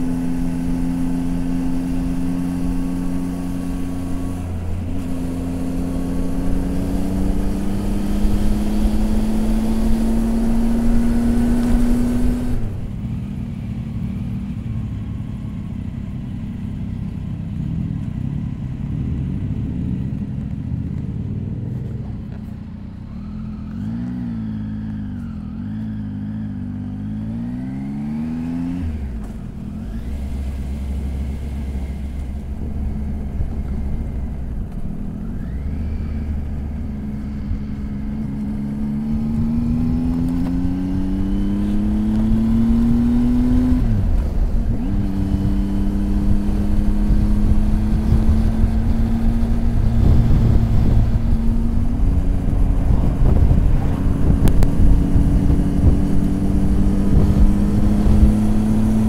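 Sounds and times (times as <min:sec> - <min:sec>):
motorcycle engine revving: 0:00.0 - 0:14.9, 0:17.5 - 0:59.0.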